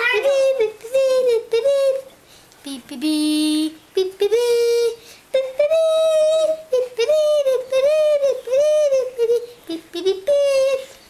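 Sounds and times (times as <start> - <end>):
child singing wordless notes: 0.0 - 11.0.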